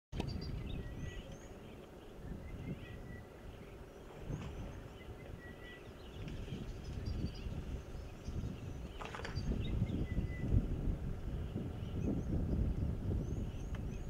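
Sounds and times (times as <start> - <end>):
birds calling: 0.2 - 14.0.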